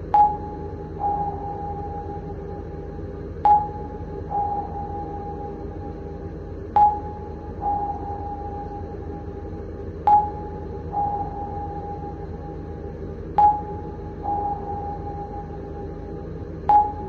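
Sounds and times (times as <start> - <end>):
sonar pings: 0.0 - 2.8, 3.4 - 9.3, 10.0 - 17.0.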